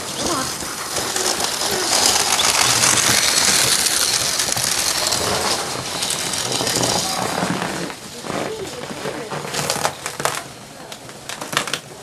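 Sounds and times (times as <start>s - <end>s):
sled runners scraping over snow: 0.0s - 10.3s.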